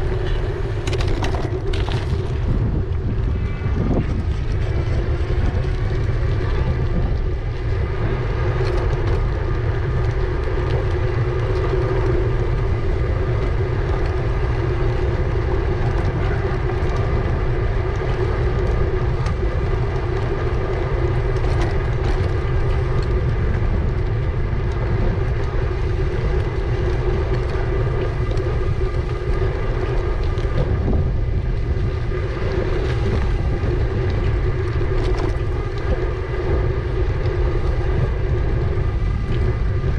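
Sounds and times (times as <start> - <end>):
e-bike motor hum: 0.0 - 39.9
wind rumble on microphone: 0.0 - 39.9.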